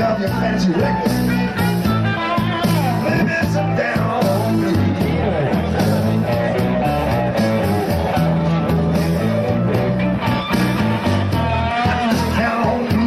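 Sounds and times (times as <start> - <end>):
electric guitar: 0.0 - 13.0
live blues band playing: 0.0 - 13.0.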